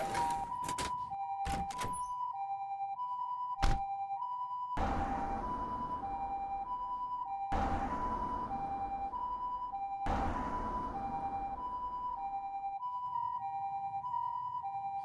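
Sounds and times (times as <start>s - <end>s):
two-tone ambulance siren: 0.0s - 15.0s.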